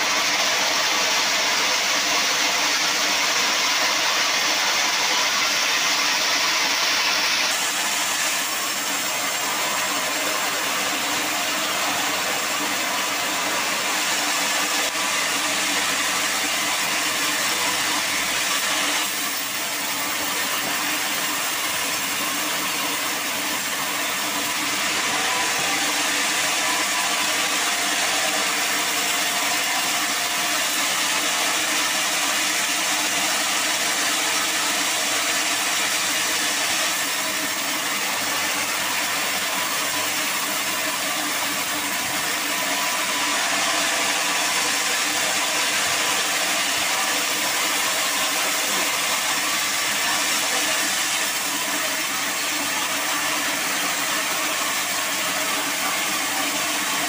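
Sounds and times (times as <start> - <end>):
steady machine hum: 0.0 - 57.0
saw blade cutting through log: 5.0 - 57.0.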